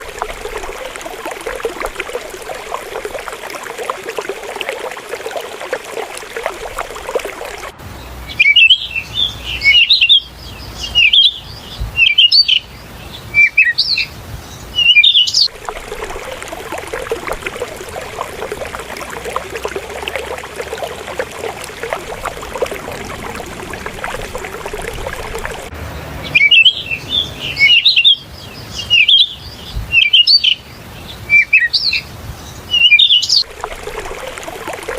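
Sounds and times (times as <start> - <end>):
songbird singing: 0.0 - 34.8
flowing river water: 0.0 - 34.9.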